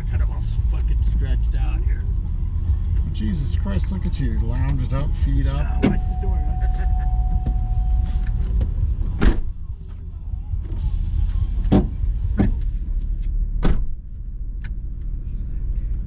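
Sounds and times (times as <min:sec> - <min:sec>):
engine rumbling inside cab: 0:00.0 - 0:16.0.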